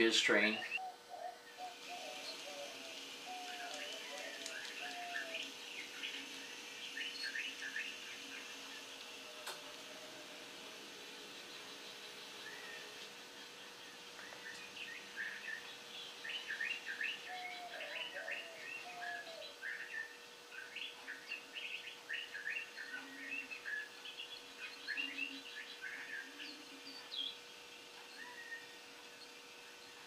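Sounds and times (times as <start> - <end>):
faint steady hum: 0.0 - 30.0
small bird chirping: 0.6 - 9.0, 11.1 - 27.4, 28.0 - 30.0.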